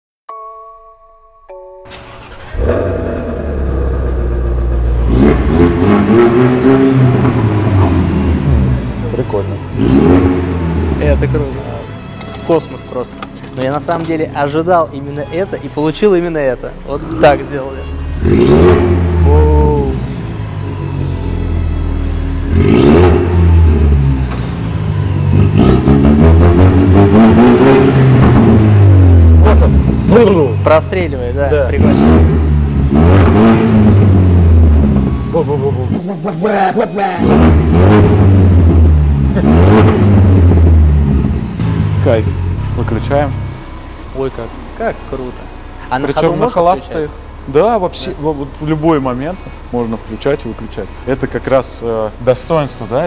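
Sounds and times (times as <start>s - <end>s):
car engine revving: 1.9s - 53.0s.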